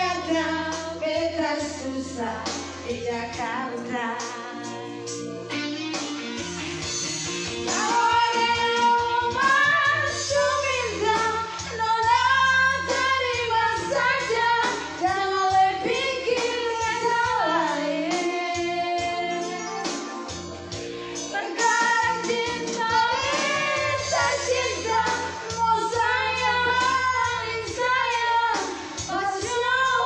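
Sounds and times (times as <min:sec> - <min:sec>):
woman singing into a microphone: 0:00.0 - 0:05.0, 0:07.7 - 0:20.1, 0:21.2 - 0:30.0
backing music: 0:00.0 - 0:30.0.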